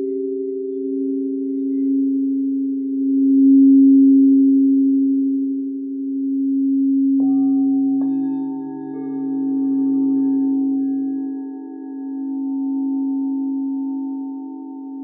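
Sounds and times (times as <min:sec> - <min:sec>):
singing bowls ringing: 0:00.0 - 0:05.4, 0:06.2 - 0:15.0.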